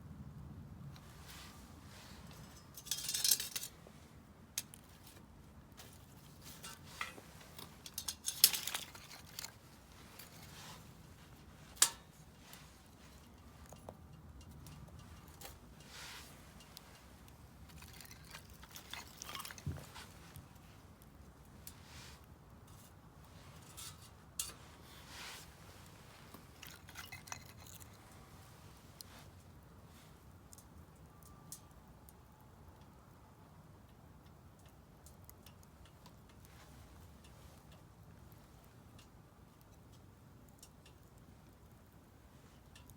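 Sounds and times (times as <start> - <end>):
firewood crackling: 0.8 - 42.9.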